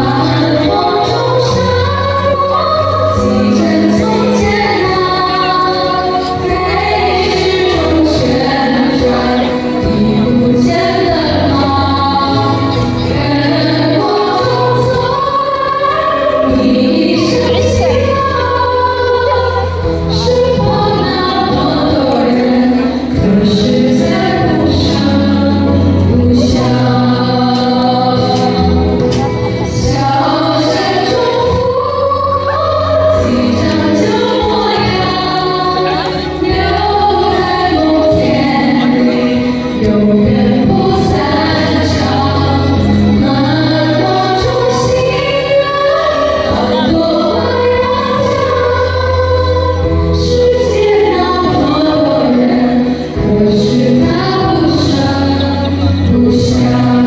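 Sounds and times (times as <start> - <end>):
song with singing voices: 0.0 - 57.0.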